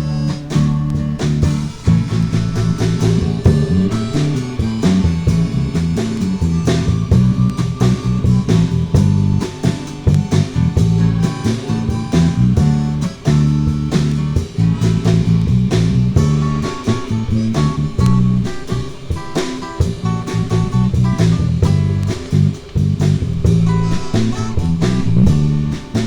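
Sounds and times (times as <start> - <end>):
bass: 0.0 - 26.0
drum kit beat: 0.0 - 26.0
guitar: 0.0 - 26.0.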